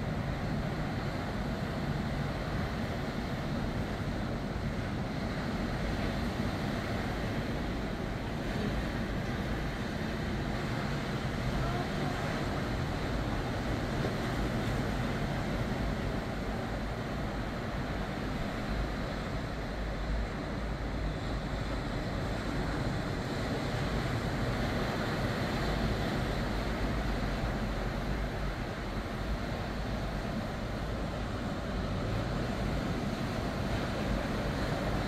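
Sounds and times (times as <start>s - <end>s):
ocean surf breaking: 0.0s - 35.0s.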